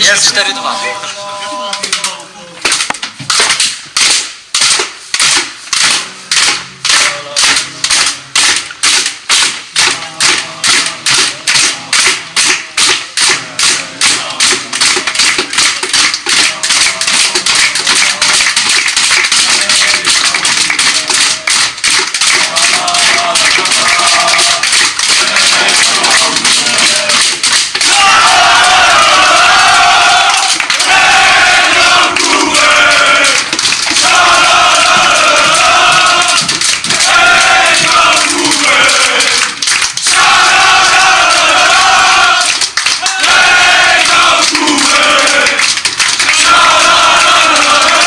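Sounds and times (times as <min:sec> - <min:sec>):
men shouting and chanting: 0:00.0 - 0:02.7, 0:09.8 - 0:15.6, 0:16.2 - 0:48.0
hands clapping and slapping: 0:01.7 - 0:48.0.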